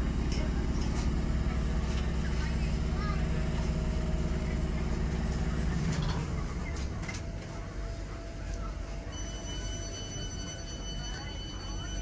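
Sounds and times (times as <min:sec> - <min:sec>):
train equipment drone: 0:00.0 - 0:12.0.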